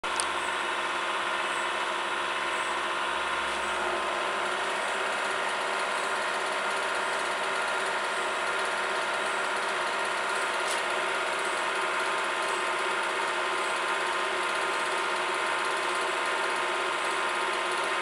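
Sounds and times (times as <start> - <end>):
testing machine mechanical hum: 0.0 - 18.0.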